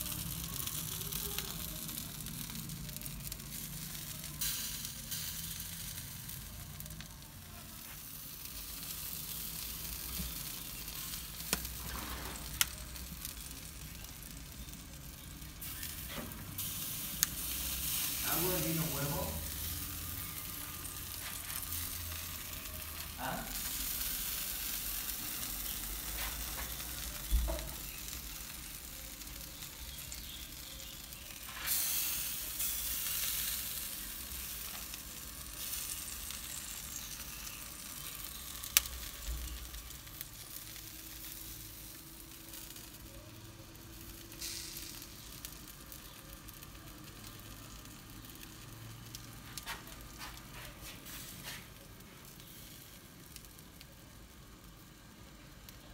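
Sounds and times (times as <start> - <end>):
meat sizzling over embers: 0.0 - 55.9.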